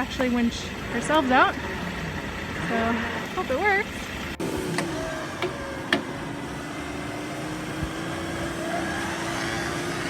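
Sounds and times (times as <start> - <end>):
electric winch motor humming: 0.7 - 10.0.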